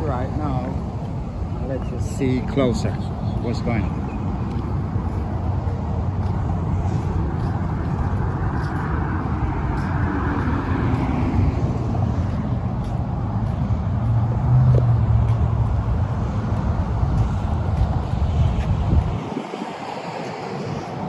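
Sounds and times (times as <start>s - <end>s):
road traffic noise: 0.0s - 21.0s
vehicle passing by: 2.4s - 21.0s.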